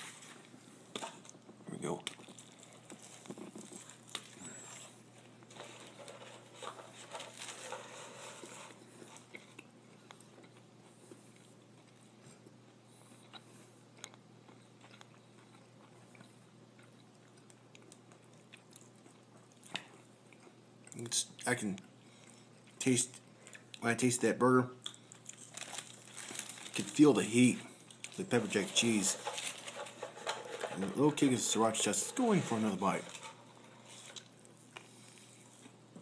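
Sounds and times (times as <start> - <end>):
faint crunching while chewing: 0.0 - 23.9, 24.8 - 35.8.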